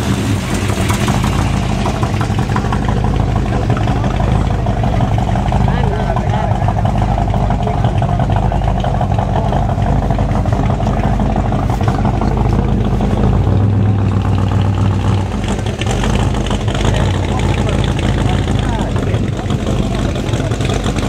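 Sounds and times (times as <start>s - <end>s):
engine idling with low hum: 0.0s - 21.0s.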